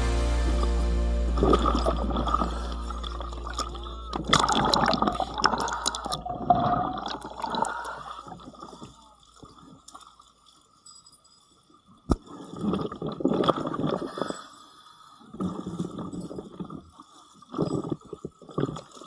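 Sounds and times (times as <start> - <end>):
water sloshing and gurgling: 0.5 - 19.0.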